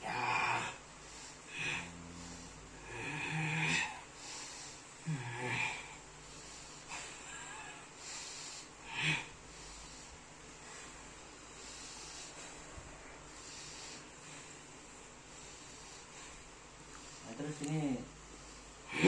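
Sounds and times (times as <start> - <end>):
person growling and breathing heavily: 0.0 - 19.0.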